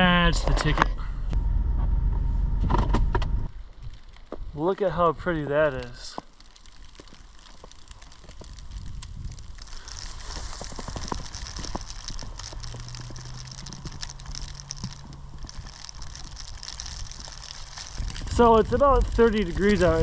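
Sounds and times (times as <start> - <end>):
low steady hum: 0.0 - 6.8, 7.8 - 20.0
wet snow pattering: 3.6 - 20.0.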